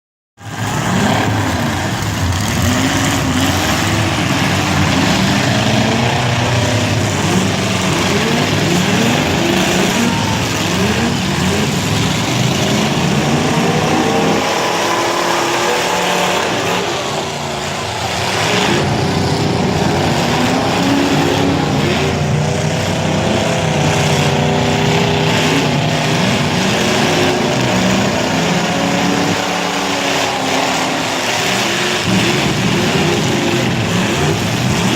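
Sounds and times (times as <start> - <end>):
car engines revving: 0.4 - 34.9.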